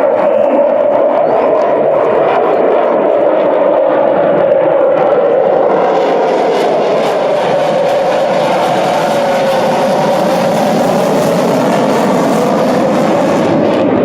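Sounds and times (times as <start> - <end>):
fighter jet engine roaring: 0.0 - 14.0.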